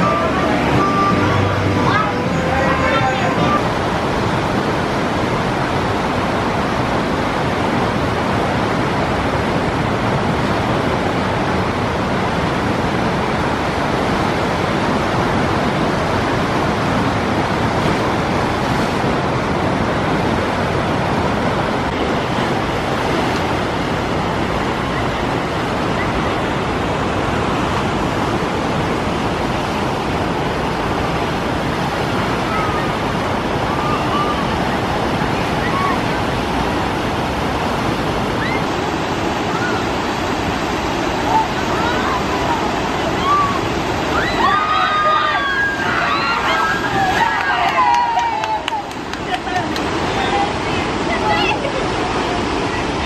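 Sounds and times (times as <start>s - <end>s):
whitewater rushing: 0.0s - 53.0s.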